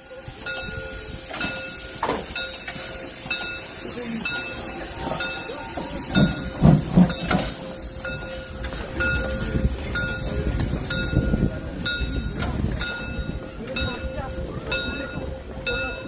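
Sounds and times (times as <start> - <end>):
steam train rumble: 0.0 - 16.0.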